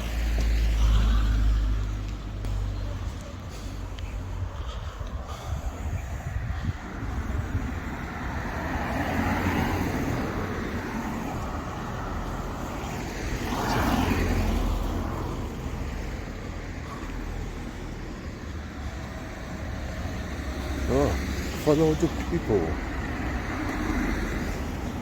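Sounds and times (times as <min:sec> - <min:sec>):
cars passing by: 0:00.0 - 0:25.0.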